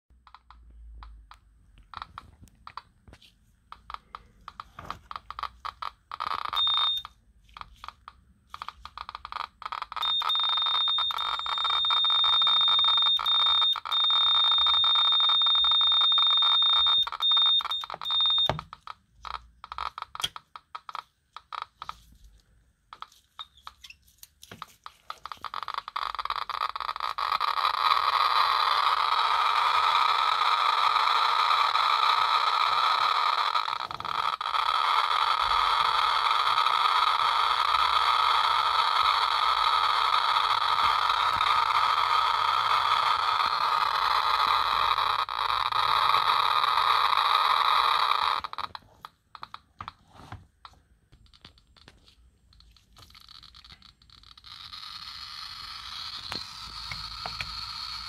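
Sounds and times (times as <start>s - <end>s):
geiger counter crackling: 0.1s - 58.0s.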